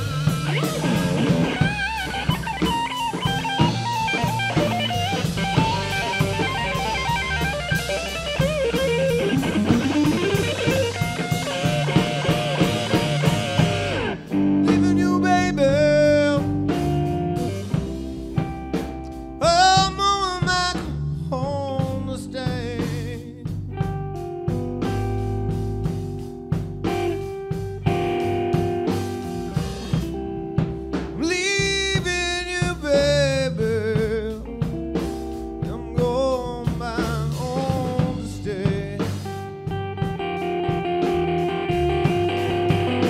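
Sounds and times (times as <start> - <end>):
electric blues band playing: 0.0 - 43.0
guitar lead with bent notes: 0.0 - 43.0.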